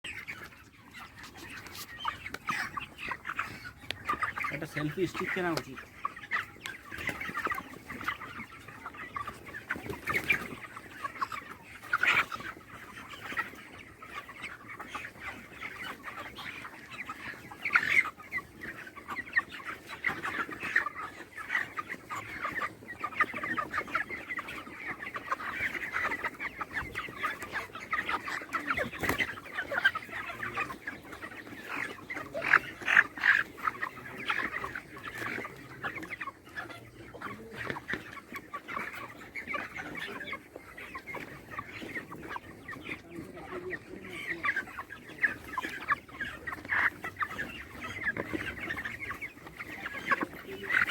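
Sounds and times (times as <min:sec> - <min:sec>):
chickens clucking and chirping: 0:00.0 - 0:50.9.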